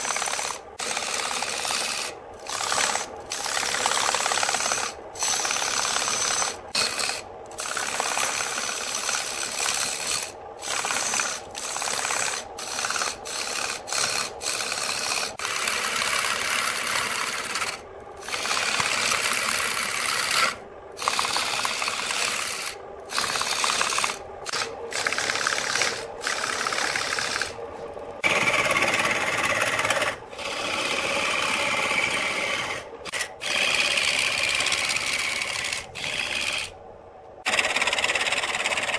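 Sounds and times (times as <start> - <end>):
lathe tool shaving wood: 0.0 - 27.6, 28.2 - 36.7, 37.5 - 38.9.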